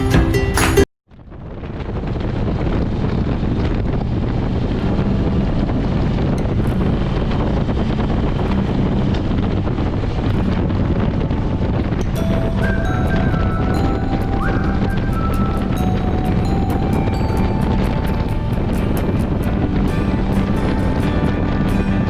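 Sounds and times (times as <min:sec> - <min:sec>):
wind buffeting microphone: 0:01.2 - 0:22.0.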